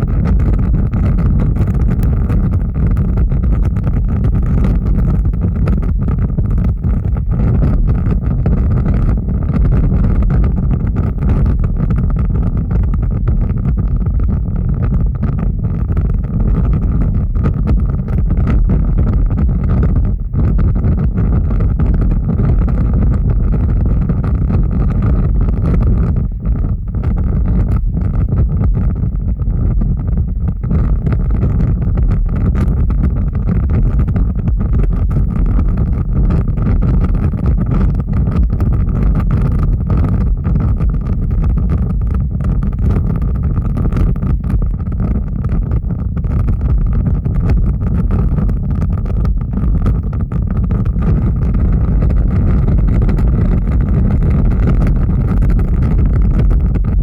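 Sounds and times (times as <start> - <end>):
large fire burning: 0.0 - 57.0.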